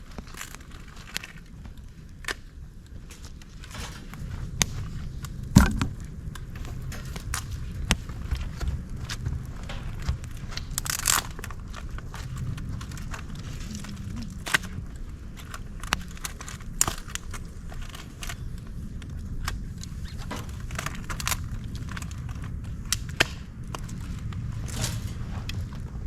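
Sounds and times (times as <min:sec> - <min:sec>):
low rumble of burning: 0:00.0 - 0:26.0
wood fire crackling: 0:00.0 - 0:26.0.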